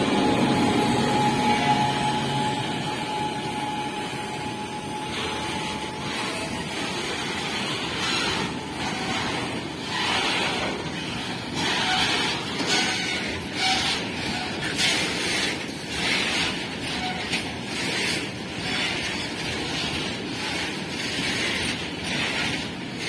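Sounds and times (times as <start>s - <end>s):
locomotive whine: 0.0s - 23.0s
train wheels rushing on rails: 0.0s - 23.0s.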